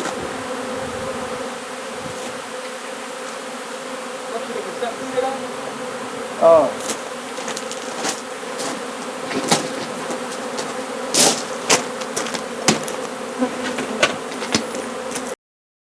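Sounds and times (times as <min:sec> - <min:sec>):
bee swarm buzzing: 0:00.0 - 0:15.4.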